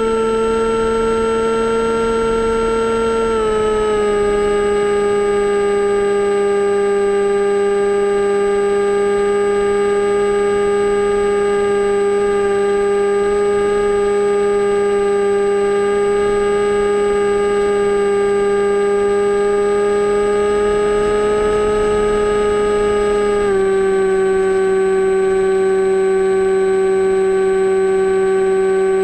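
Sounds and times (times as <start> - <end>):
model plane electric motor whining: 0.0 - 29.0.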